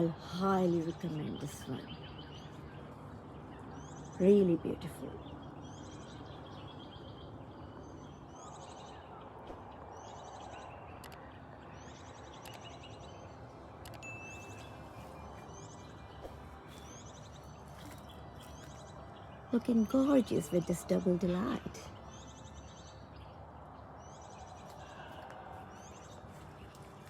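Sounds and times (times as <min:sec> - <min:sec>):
faint steady background noise: 0:00.0 - 0:27.0.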